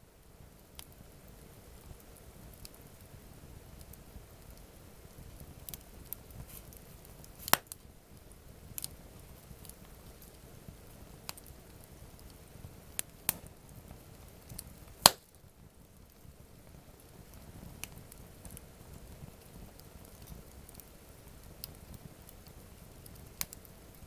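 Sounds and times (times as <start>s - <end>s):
campfire crackling: 0.1s - 24.0s
sharp pops from fire: 0.4s - 24.0s.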